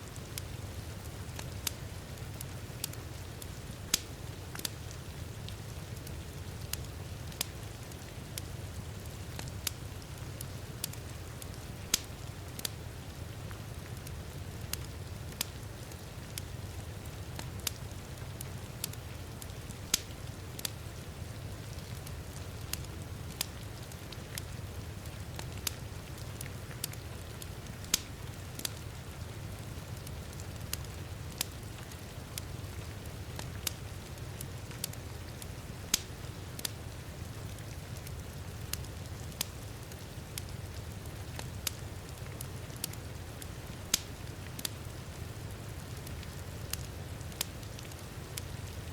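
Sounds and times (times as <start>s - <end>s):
fireplace crackling: 0.0s - 48.9s.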